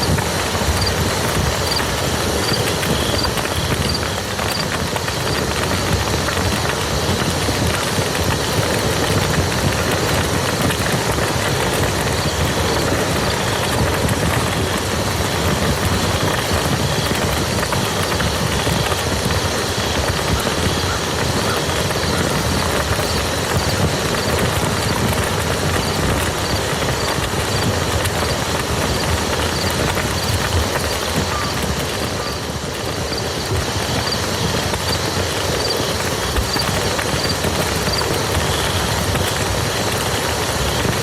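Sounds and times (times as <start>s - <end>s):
rain falling on mud: 0.0s - 41.0s.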